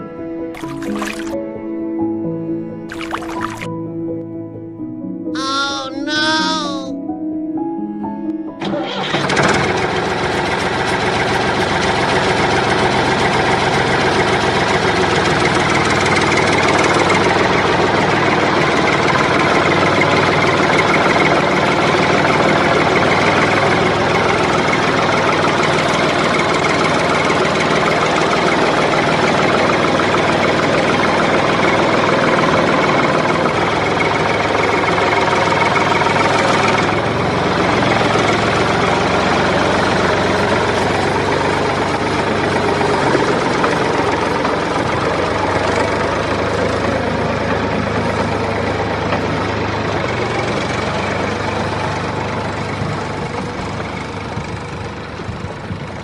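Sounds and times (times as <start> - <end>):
diesel tractor engine idling: 9.7 - 56.0.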